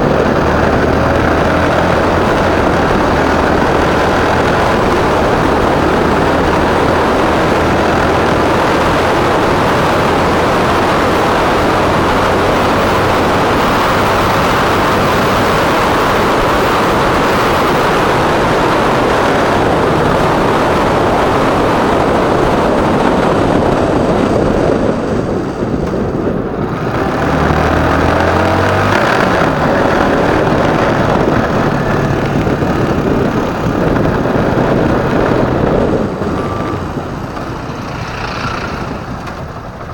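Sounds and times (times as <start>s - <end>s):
motorcycle engine running: 0.0s - 39.9s
road and air rush: 0.0s - 39.9s.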